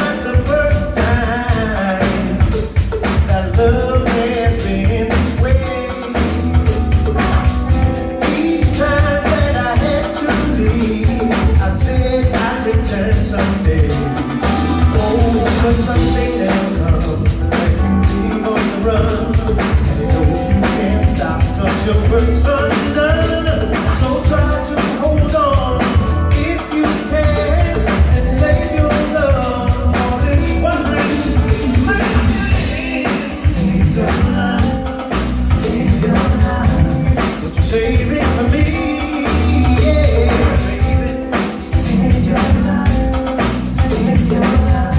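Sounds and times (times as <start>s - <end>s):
live funk band playing: 0.0s - 44.9s
person singing: 0.0s - 44.9s.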